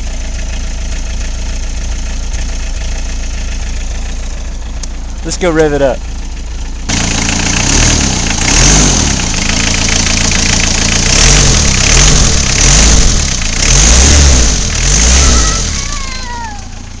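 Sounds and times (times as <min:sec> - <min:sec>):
diesel engine revving: 0:01.6 - 0:17.0.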